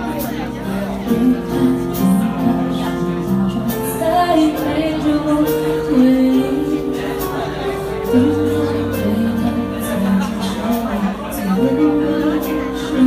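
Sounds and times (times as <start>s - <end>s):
woman singing: 0.7s - 13.0s.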